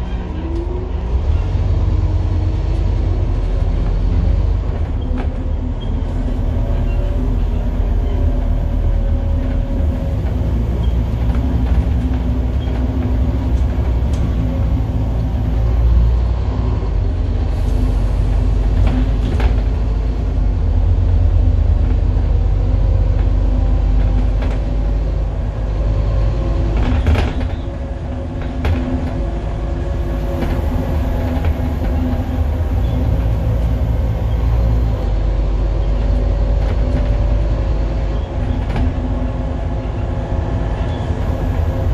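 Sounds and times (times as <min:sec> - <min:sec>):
bus diesel engine drone: 0:00.0 - 0:41.9
deep road rumble: 0:00.0 - 0:41.9.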